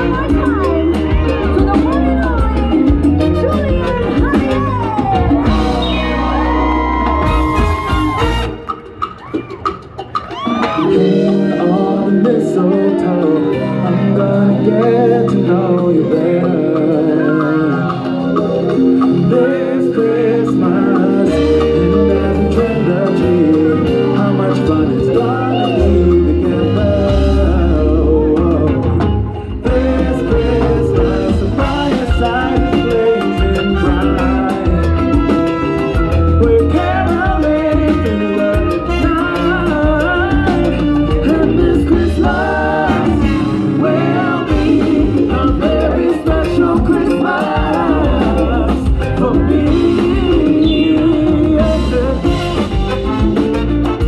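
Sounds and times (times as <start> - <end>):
live band music with singer: 0.0 - 54.0.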